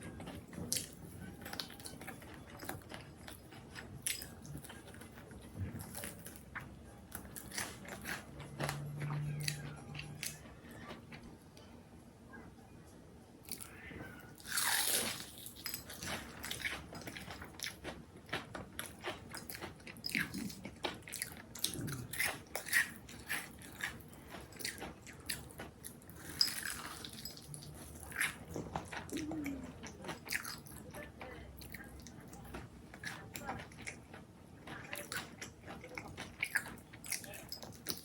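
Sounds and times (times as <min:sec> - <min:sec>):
crunchy food being chewed: 0:00.0 - 0:11.4, 0:13.4 - 0:38.0.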